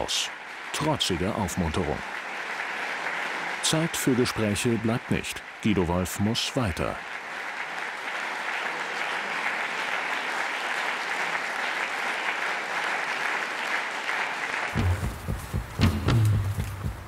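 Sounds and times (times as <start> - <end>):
audience applause: 0.0 - 17.0.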